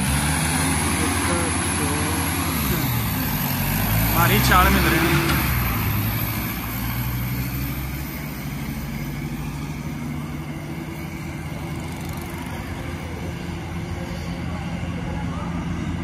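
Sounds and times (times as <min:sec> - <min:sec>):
tractor diesel engines running: 0:00.0 - 0:16.0.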